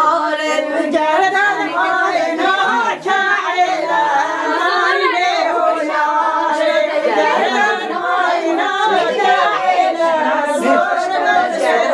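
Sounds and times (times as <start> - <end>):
group singing unaccompanied: 0.0 - 11.9.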